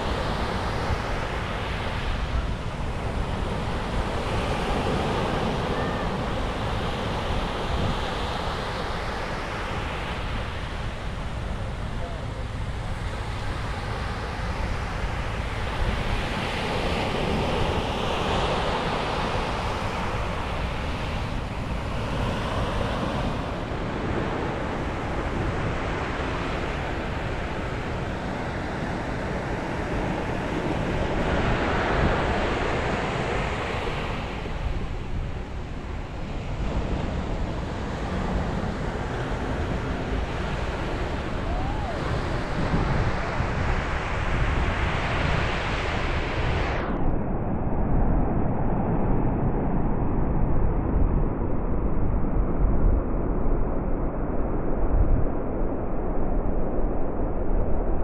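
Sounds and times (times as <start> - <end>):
ocean waves breaking on beach: 0.0 - 47.0
wind rumbling on microphone: 0.0 - 58.0.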